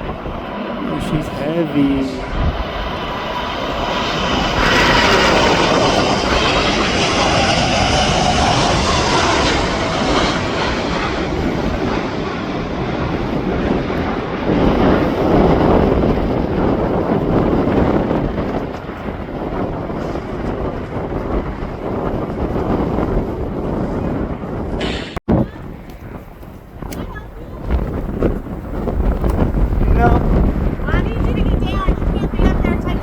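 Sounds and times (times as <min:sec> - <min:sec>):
jet engines passing: 0:00.0 - 0:33.0.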